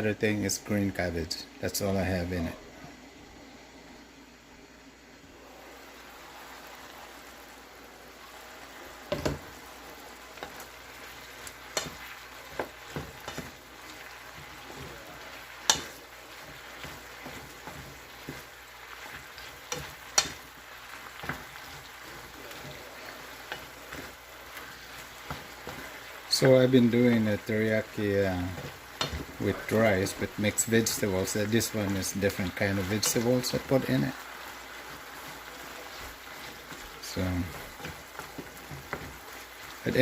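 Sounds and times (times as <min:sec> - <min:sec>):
chicken sizzling in a pan: 0:05.4 - 0:40.0.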